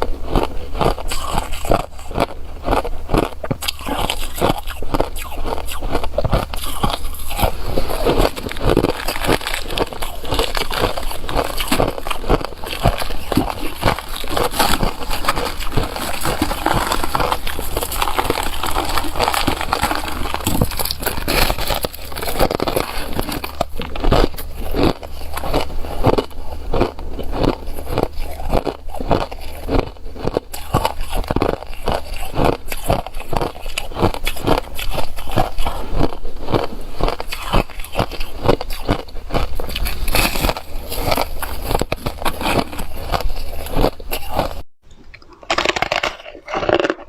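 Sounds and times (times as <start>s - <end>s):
ice being crunched and chewed: 0.0s - 47.0s.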